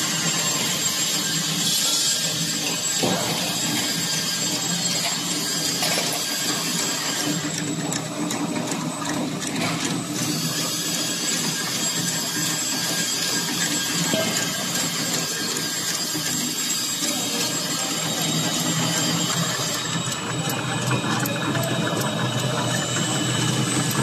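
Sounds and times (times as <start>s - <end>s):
conveyor machine hum: 0.0s - 24.0s.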